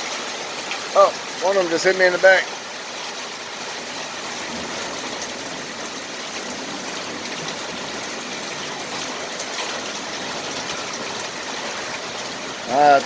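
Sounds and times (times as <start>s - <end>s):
hail hissing: 0.0s - 13.0s
hailstones ticking: 0.0s - 13.0s.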